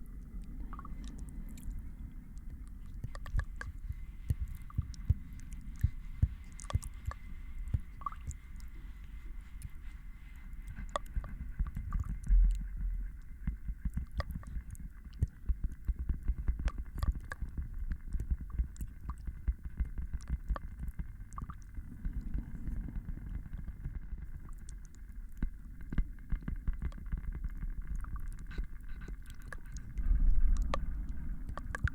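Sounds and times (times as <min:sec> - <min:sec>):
faint steady tone: 0:00.0 - 0:31.9
low rumble: 0:00.0 - 0:31.9
soft crackles and clicks: 0:00.0 - 0:31.9.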